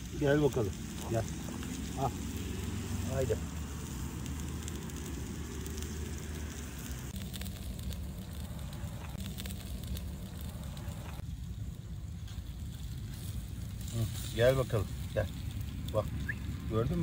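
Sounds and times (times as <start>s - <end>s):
fish crackling on charcoal grill: 0.0s - 17.0s.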